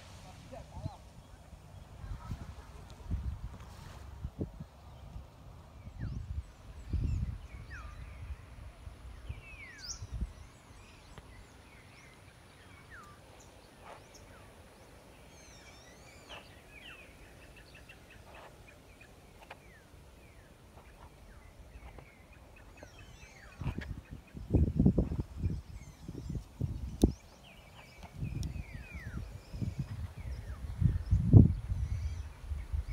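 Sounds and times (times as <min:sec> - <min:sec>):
wind buffeting microphone: 0:00.0 - 0:15.3, 0:16.1 - 0:32.9
birds whistling and chirping: 0:05.8 - 0:32.9.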